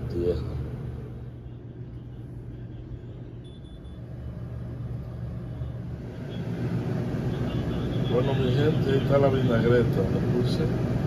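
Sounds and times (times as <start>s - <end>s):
machinery rumble and hum: 0.0s - 11.0s.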